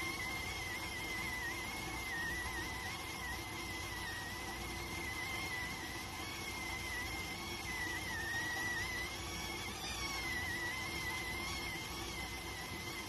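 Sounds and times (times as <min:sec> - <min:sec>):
rice cooker whistling: 0:00.0 - 0:13.0.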